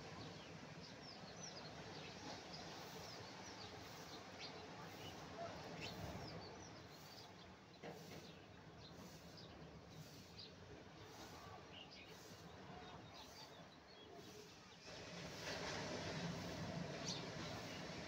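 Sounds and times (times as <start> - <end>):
faint surf: 0.0 - 18.0.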